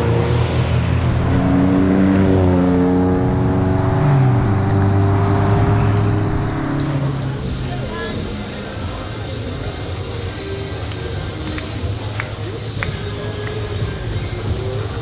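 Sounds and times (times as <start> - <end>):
car engine pulling: 0.0 - 15.0.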